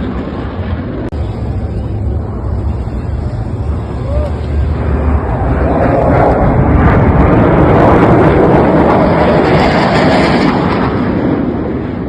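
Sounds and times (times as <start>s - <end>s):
airplane roar overhead: 0.0s - 12.0s.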